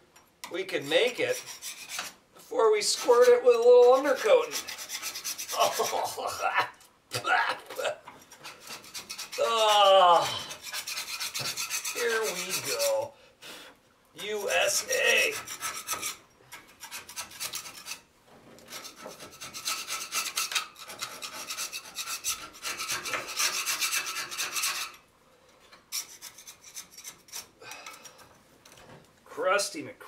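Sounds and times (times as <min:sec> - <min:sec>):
wire brush scraping rusty metal: 0:00.5 - 0:06.8, 0:07.7 - 0:13.1, 0:14.2 - 0:25.0, 0:25.6 - 0:28.8.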